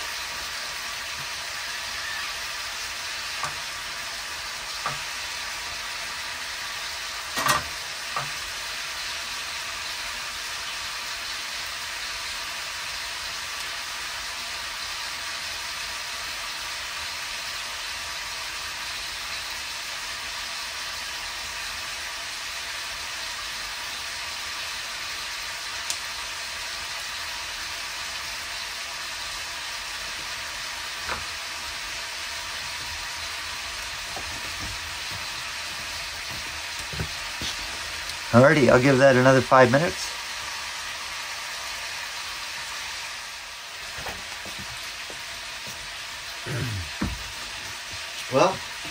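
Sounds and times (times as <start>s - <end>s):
bacon and sausages sizzling: 0.0s - 48.9s.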